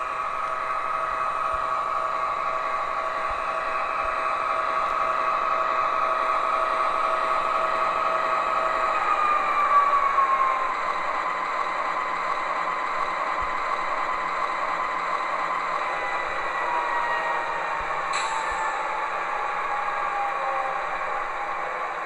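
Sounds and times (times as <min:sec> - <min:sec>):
model train whirring hum: 0:00.0 - 0:22.0.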